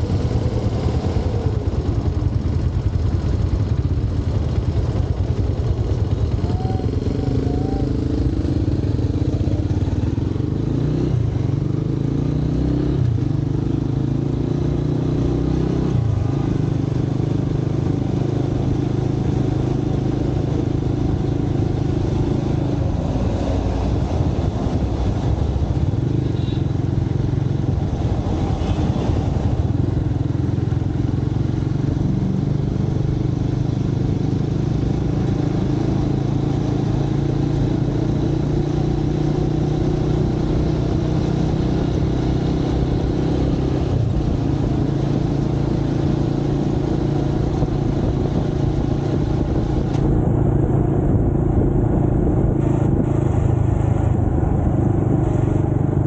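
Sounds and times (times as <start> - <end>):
city traffic: 0.0 - 56.0
motorcycle engine cruising: 0.0 - 56.0
wind and road noise: 0.0 - 56.0.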